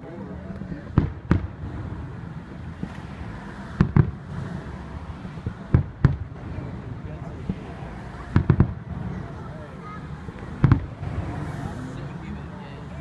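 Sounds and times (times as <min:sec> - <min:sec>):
fireworks bursting: 0:00.4 - 0:13.0
echoing rumble: 0:00.6 - 0:12.4.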